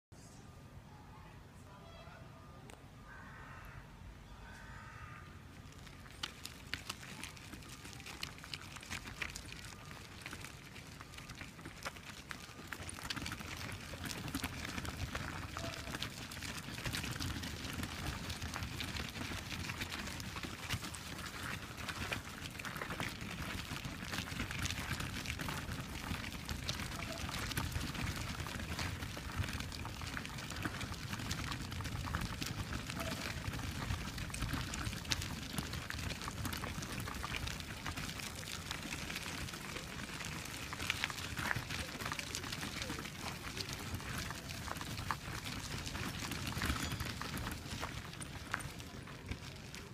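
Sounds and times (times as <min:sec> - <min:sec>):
footsteps on gravel: 0:05.5 - 0:49.9.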